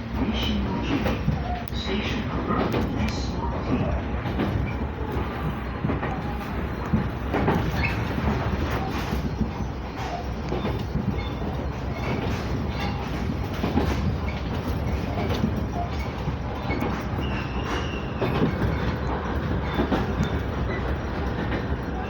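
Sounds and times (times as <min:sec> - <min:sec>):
train rumbling: 0:00.0 - 0:22.0
wheels clicking over rail joints: 0:00.0 - 0:22.0.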